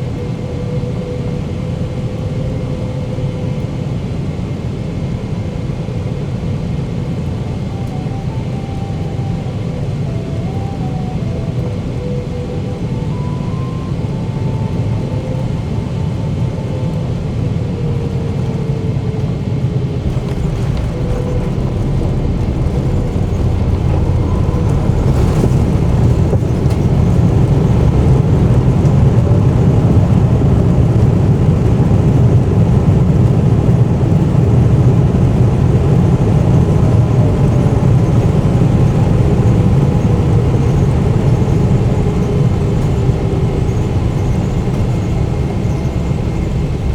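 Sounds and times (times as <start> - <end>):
airplane cabin rumble: 0.0 - 46.9
engine tones sliding down: 6.0 - 46.9.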